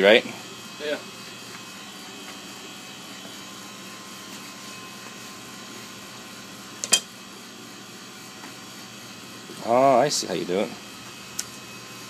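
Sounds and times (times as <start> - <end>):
kitchen hum: 0.0 - 12.0.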